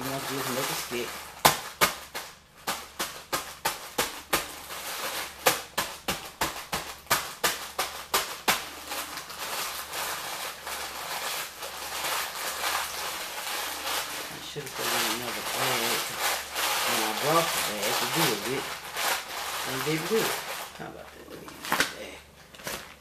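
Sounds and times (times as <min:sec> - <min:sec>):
crackers crunching in plastic bag: 0:00.0 - 0:23.0
plastic bag crinkling: 0:00.0 - 0:23.0.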